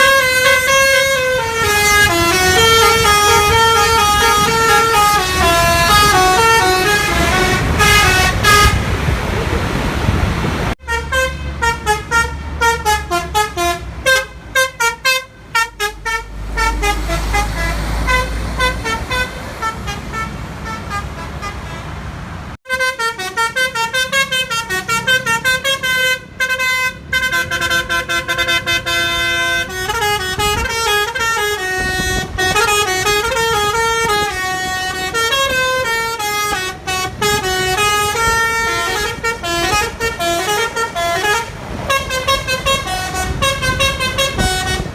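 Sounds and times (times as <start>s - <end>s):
musical bus horn melody: 0.0s - 9.1s, 10.8s - 22.0s, 22.6s - 44.9s
bus engine running: 0.0s - 44.9s.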